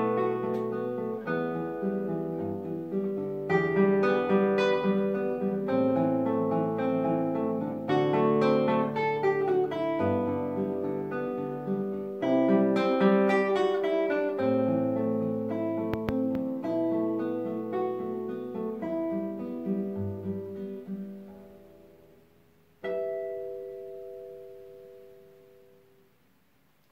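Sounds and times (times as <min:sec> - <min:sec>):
classical guitar fingerpicking: 0:00.0 - 0:26.0.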